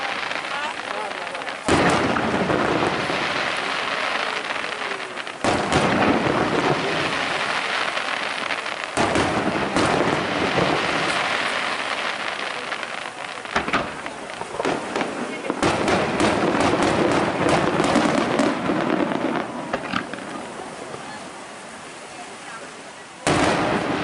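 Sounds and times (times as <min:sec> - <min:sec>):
firework shells booming: 0:00.0 - 0:21.1, 0:23.2 - 0:24.0
crackling hiss of burning stars: 0:00.0 - 0:24.0.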